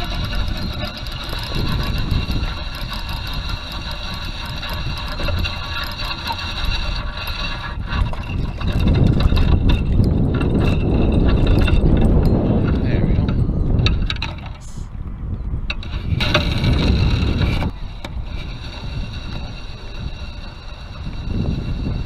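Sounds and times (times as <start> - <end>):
steady high-pitched whir: 0.0 - 15.0, 15.6 - 22.0
wind buffeting microphone: 0.0 - 22.0.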